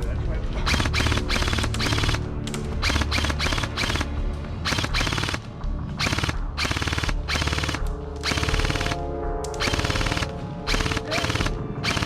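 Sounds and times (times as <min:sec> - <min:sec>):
airsoft guns firing bursts: 0:00.6 - 0:12.0.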